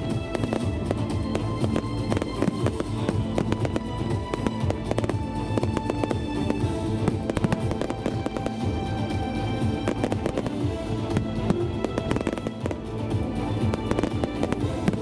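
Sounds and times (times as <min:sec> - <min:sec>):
fireworks bursting: 0:00.0 - 0:08.8, 0:09.8 - 0:12.8, 0:13.6 - 0:15.0
fireworks crackling: 0:00.0 - 0:15.0
music with held tones: 0:00.0 - 0:15.0.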